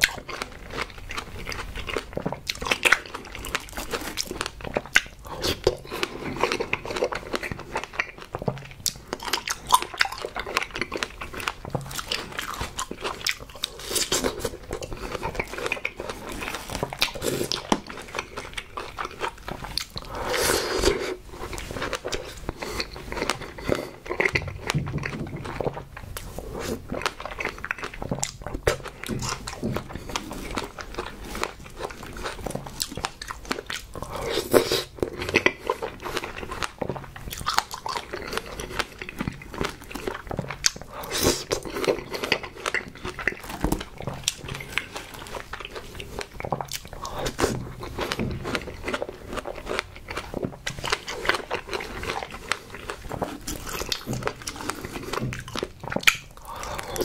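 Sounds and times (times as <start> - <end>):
chewing with juicy crunches: 0.0 - 57.0.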